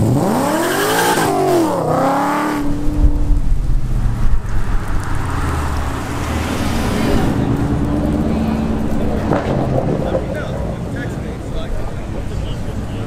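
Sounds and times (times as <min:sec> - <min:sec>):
car engine revving: 0:00.0 - 0:13.0
deep engine rumble: 0:01.4 - 0:13.0.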